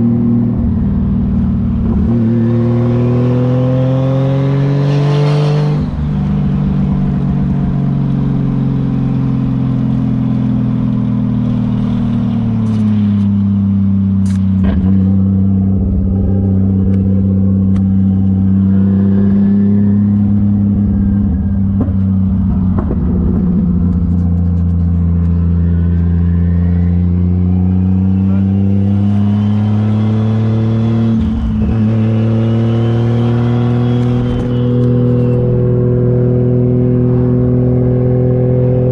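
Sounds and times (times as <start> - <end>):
car engine cruising: 0.0 - 38.9.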